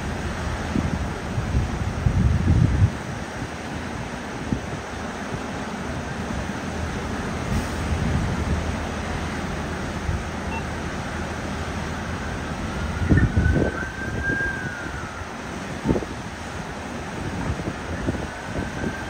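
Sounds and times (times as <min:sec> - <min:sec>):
wind buffeting microphone: 0:00.0 - 0:10.4, 0:11.4 - 0:19.0
river rapids rushing: 0:00.0 - 0:19.0.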